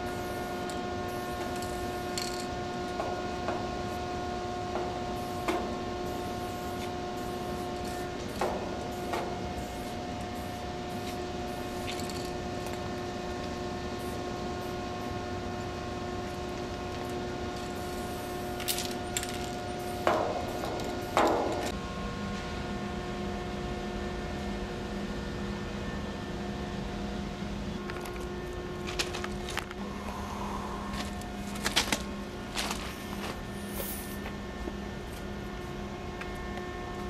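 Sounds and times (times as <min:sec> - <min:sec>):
steady hum: 0:00.0 - 0:37.0.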